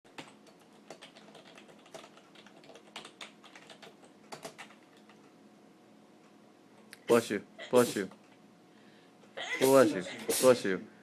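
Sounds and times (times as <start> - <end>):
faint steady hum: 0.1 - 11.0.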